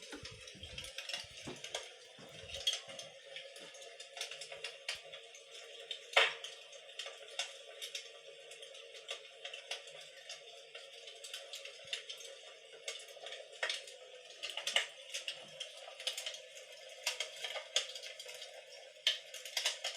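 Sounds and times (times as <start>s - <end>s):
fire crackles and pops: 0.0s - 19.9s.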